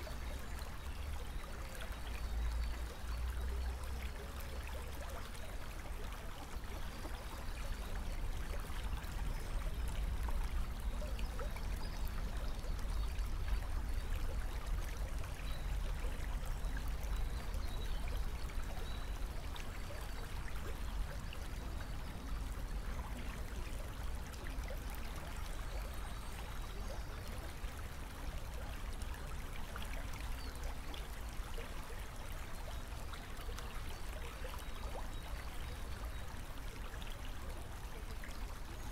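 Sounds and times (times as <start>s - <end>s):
trickling water: 0.0s - 38.9s.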